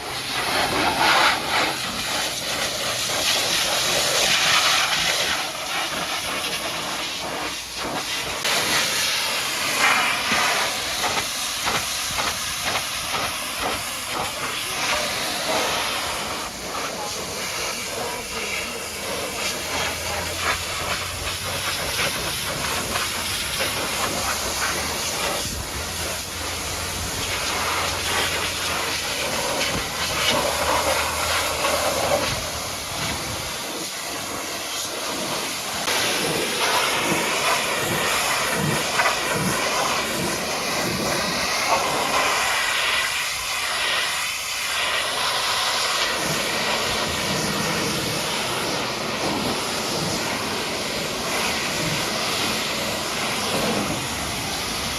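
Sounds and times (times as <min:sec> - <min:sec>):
high-pressure water jet spraying: 0:00.0 - 0:54.9.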